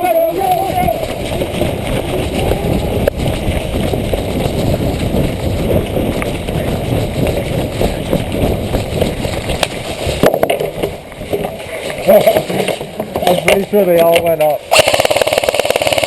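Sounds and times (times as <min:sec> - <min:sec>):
heavy rumble: 0:00.0 - 0:14.0
gear jostling: 0:00.0 - 0:14.5
quick running footsteps: 0:00.0 - 0:16.0.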